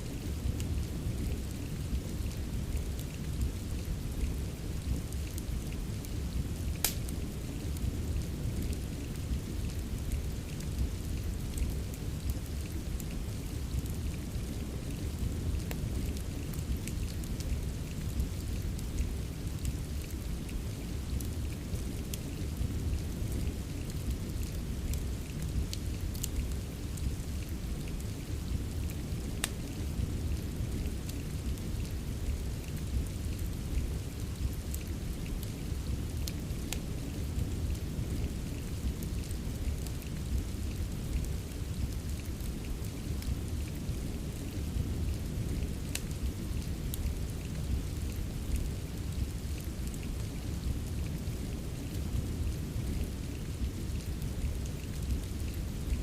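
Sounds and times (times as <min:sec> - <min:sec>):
fire crackling in fireplace: 0:00.0 - 0:56.0
steady rain: 0:00.0 - 0:56.0.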